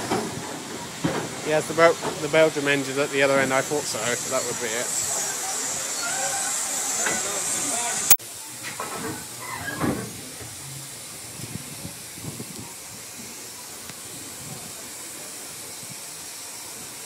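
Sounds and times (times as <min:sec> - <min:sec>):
railway carriage rolling on track: 0:00.0 - 0:17.0
steady hiss: 0:00.0 - 0:17.0.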